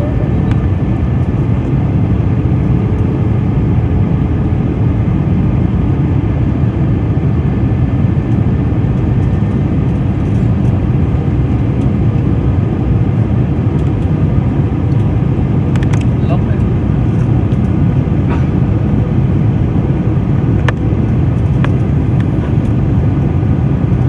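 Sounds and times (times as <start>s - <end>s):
airplane cabin engine rush: 0.0s - 24.0s.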